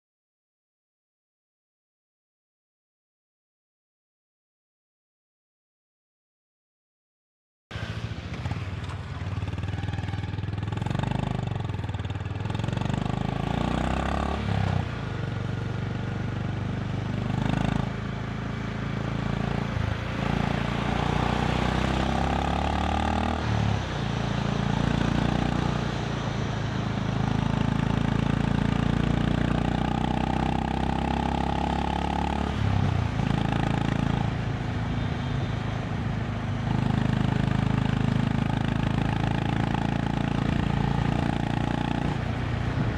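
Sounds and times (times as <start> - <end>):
motorcycle engine accelerating: 7.7 - 42.9.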